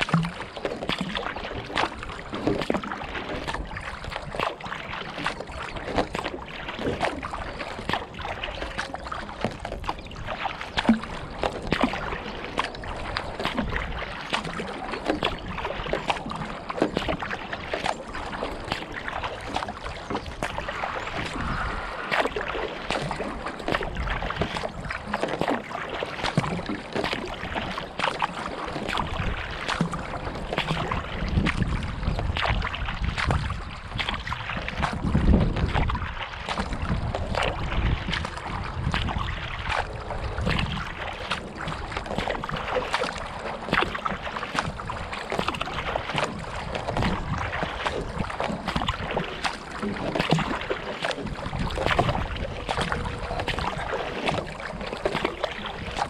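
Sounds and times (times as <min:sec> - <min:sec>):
water splashing against kayak: 0:00.0 - 0:56.0
wind rumbling on microphone: 0:00.0 - 0:56.0.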